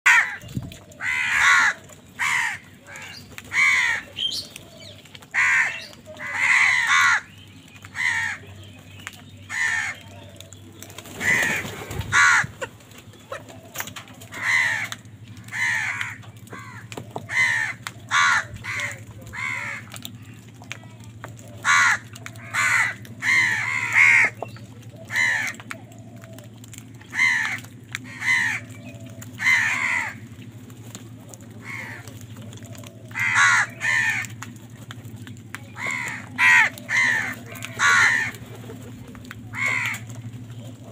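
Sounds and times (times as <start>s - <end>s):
crows cawing: 0.1s - 8.6s, 9.4s - 10.5s, 11.1s - 12.7s, 13.3s - 30.5s, 31.5s - 34.7s, 35.6s - 40.5s.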